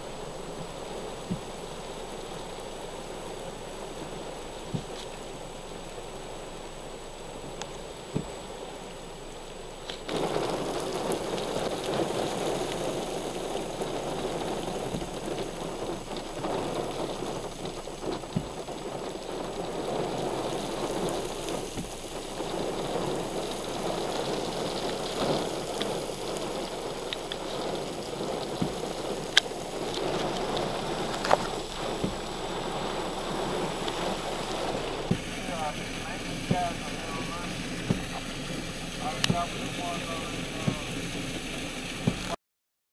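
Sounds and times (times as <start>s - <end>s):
heavy rain on pavement: 0.0s - 42.4s.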